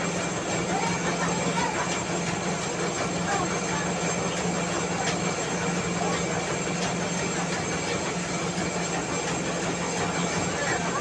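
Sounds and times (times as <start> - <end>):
rice mill motor humming: 0.0 - 11.0.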